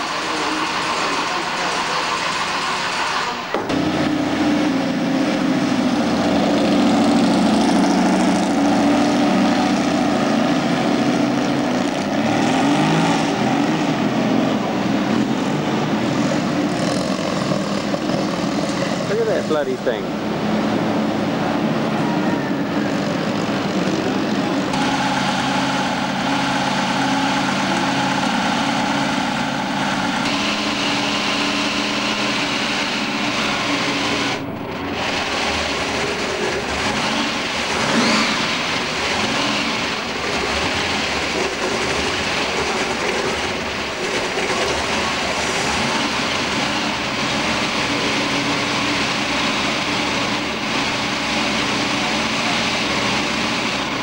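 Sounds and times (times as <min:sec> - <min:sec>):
car engine idling: 0:00.0 - 0:54.0
hot rod engine idling and revving: 0:00.0 - 0:54.0.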